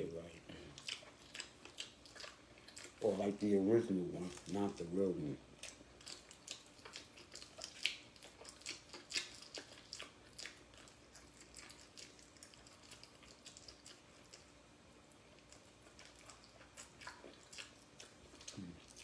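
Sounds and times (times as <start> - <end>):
wet chewing clicks and smacks: 0.5 - 19.0.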